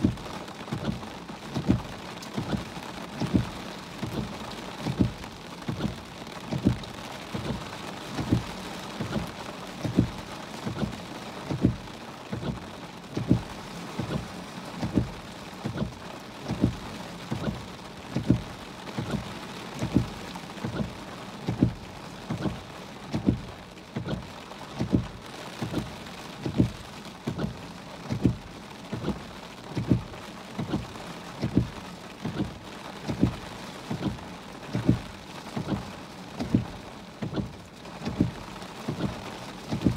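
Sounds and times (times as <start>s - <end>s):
heavy rain on a car: 0.0s - 39.9s
windshield wipers thumping: 0.0s - 39.9s.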